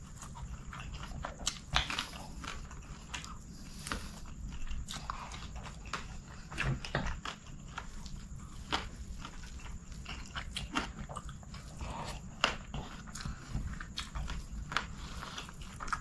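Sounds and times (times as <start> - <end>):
man chewing and smacking: 0.0 - 16.0.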